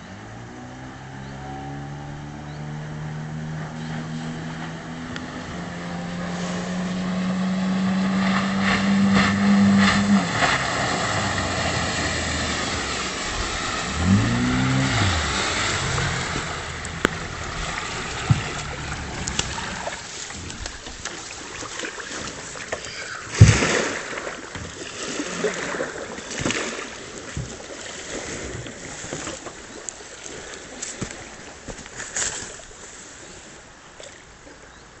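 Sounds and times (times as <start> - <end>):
outboard motor running: 0.0 - 32.2
water splashing: 0.0 - 34.7.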